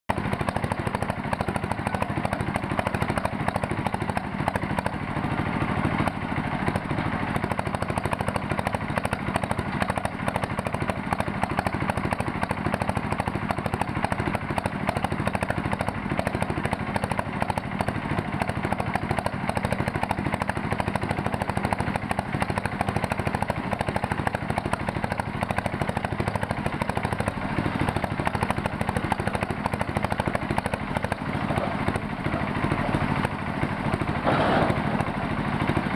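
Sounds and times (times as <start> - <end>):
diesel engine pulsing: 0.1 - 35.9.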